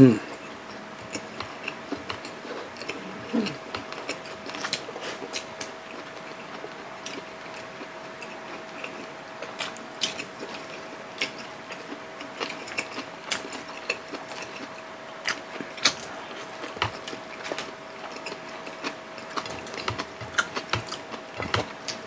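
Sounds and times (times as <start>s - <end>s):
faint steady hum: 0.0s - 22.0s
chewing with wet smacks: 0.2s - 22.0s.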